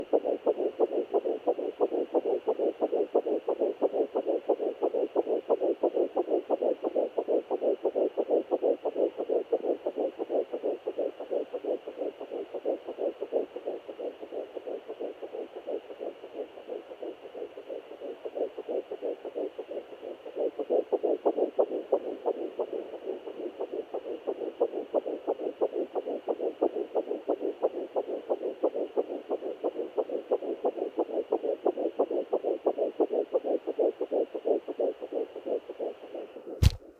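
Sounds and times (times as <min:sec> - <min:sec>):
faint steady hiss: 0:00.0 - 0:36.9
fast whooshing heartbeat pulse: 0:00.0 - 0:36.9.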